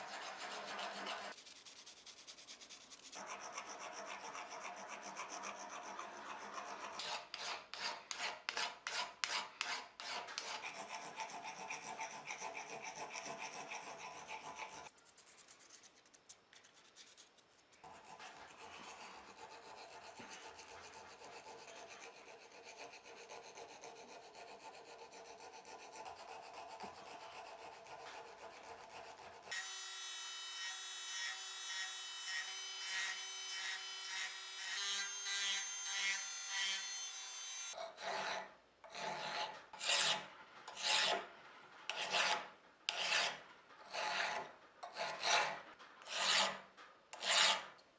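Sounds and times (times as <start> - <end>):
file rasping on steel: 0.0 - 2.1, 3.1 - 14.9, 17.8 - 41.3, 41.9 - 47.8.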